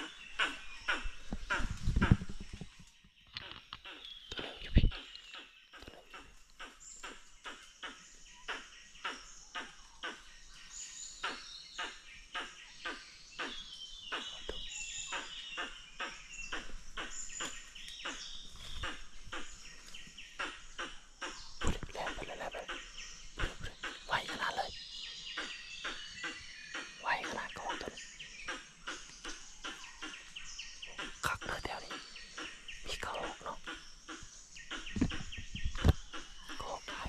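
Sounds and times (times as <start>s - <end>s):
insects calling: 0.0s - 2.7s, 3.4s - 37.0s
birds whistling and trilling: 0.0s - 37.0s.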